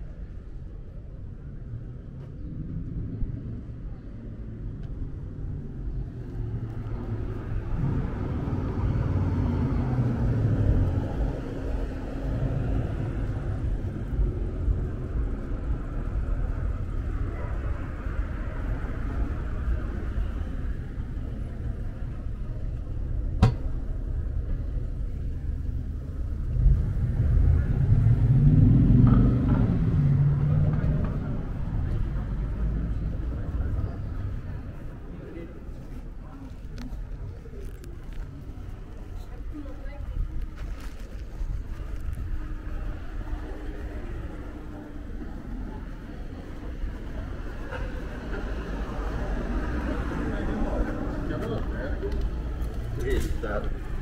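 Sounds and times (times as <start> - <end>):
motor vehicles passing: 1.8 - 54.0.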